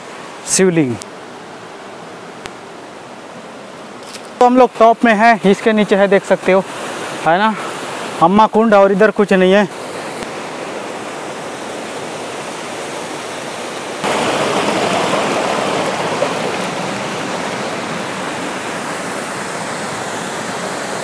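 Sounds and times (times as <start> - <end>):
stream and waterfall rushing: 0.0 - 21.0.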